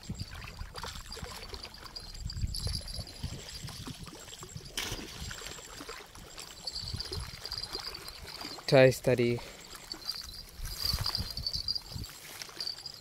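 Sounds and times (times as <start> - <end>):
small waves lapping: 0.0 - 13.0
wind rumbling on microphone: 0.0 - 13.0.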